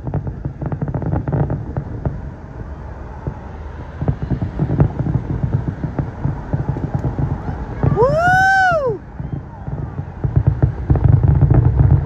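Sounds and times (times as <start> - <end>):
fireworks bangs and crackles: 0.0 - 12.0
low rumble: 0.0 - 12.0.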